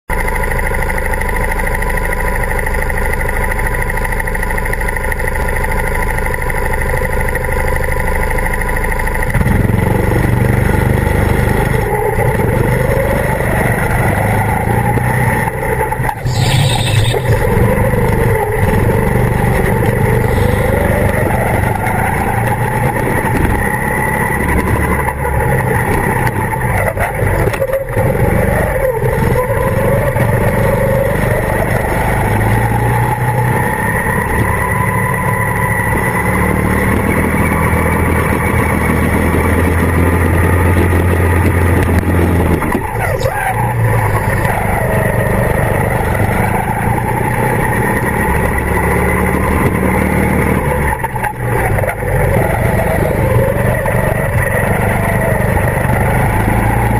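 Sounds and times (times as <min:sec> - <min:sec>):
go-kart engines idling: 0:00.1 - 0:56.9
kart engine running hard: 0:00.1 - 0:56.9.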